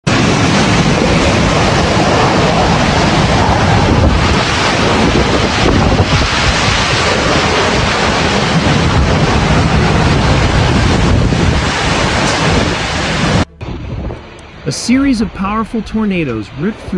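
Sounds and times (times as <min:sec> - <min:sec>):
wind buffeting microphone: 0:00.1 - 0:16.9.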